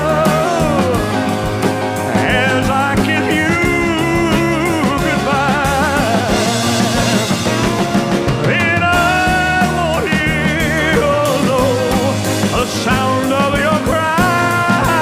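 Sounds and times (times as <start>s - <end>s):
slow pop ballad: 0.0s - 15.0s.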